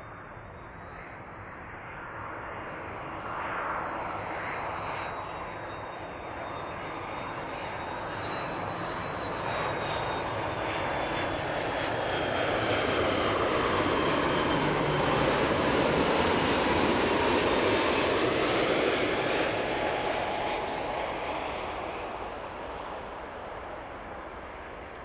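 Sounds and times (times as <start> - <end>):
jet engines rushing with whine: 0.0 - 25.0.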